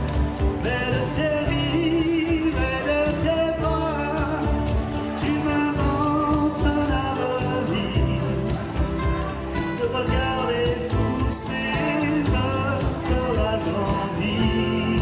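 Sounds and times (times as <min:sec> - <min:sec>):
acoustic guitar strumming: 0:00.0 - 0:15.0
music with a steady beat: 0:00.0 - 0:15.0.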